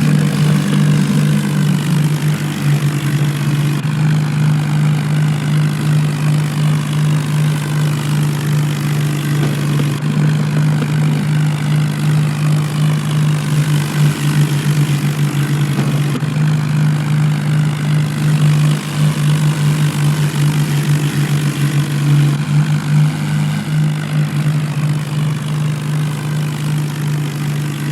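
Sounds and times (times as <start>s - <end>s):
tractor diesel engines straining: 0.0s - 27.9s.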